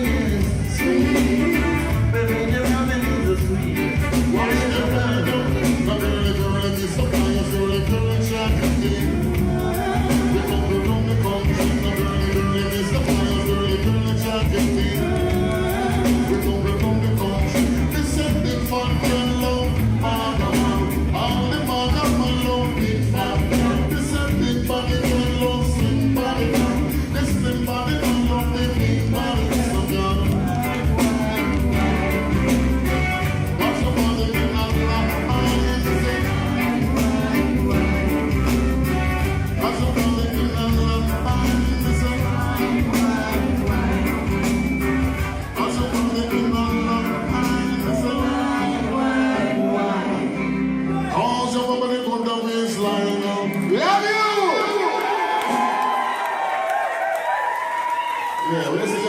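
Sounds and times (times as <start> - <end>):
person singing: 0.0 - 54.9
reggae band playing: 0.0 - 59.0.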